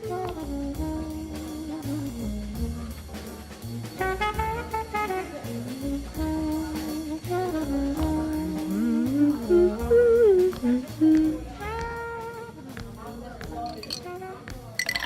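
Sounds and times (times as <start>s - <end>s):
horn melody: 0.0s - 3.3s, 3.9s - 12.7s
bass line: 0.0s - 14.1s
drum kit: 0.0s - 15.0s.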